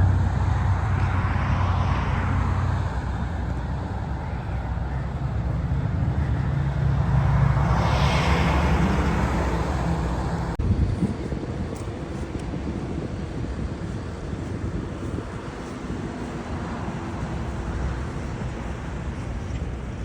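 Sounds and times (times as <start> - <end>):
road vehicle rumble: 0.0 - 20.0.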